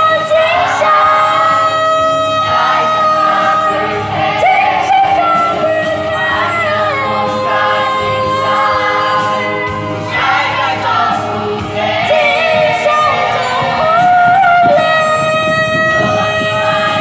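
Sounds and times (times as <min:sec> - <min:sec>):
choir singing a hymn: 0:00.0 - 0:15.2, 0:15.8 - 0:17.0.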